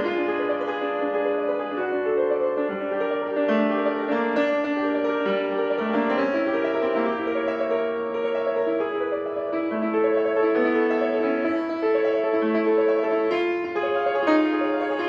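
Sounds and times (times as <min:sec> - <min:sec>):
grand piano playing: 0:00.0 - 0:15.0.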